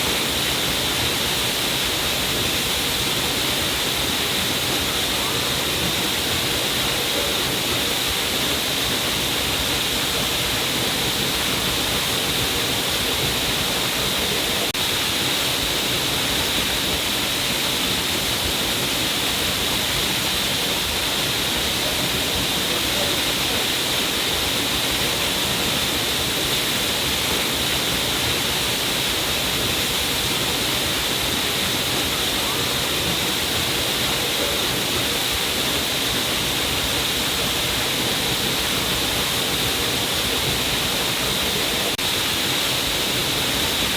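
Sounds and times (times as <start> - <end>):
waterfall splashing: 0.0 - 43.9.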